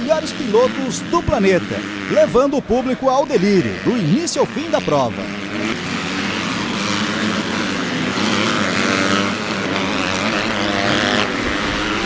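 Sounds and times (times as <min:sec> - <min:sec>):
motocross bike engines racing: 0:00.0 - 0:12.0.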